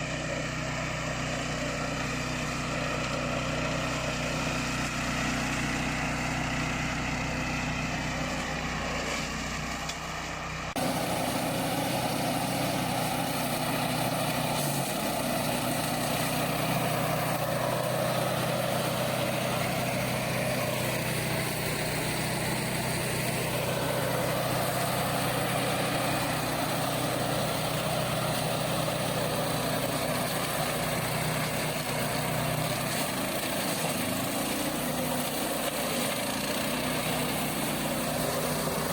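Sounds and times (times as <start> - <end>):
flail mower mechanical drone: 0.0 - 38.9.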